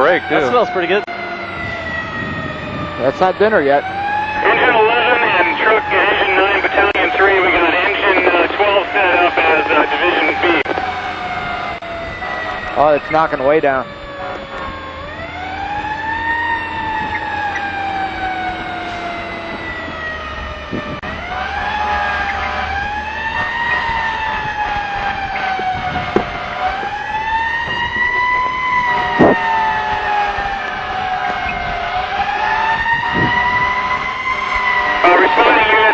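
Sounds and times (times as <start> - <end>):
fire truck siren wailing: 0.0 - 35.9
truck engine rumble: 0.0 - 35.9.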